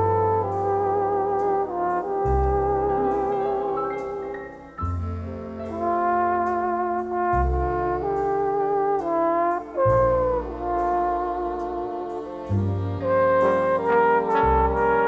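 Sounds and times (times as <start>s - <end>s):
deep bass note: 0.0s - 1.2s, 2.2s - 8.4s, 9.8s - 15.0s
held melody notes: 0.0s - 15.0s.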